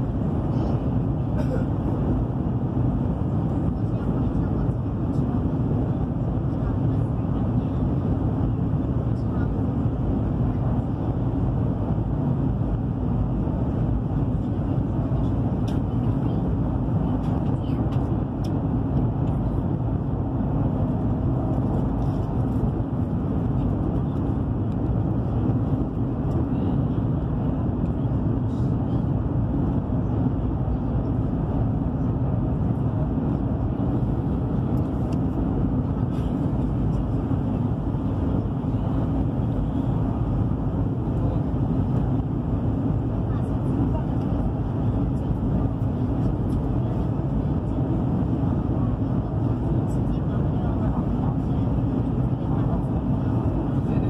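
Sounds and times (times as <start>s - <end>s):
high-speed train cabin rumble: 0.0s - 54.0s.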